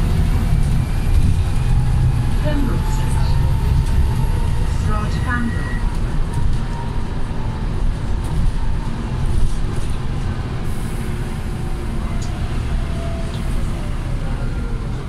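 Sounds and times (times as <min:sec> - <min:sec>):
bus diesel engine rumble: 0:00.0 - 0:15.0
road noise: 0:00.0 - 0:15.0.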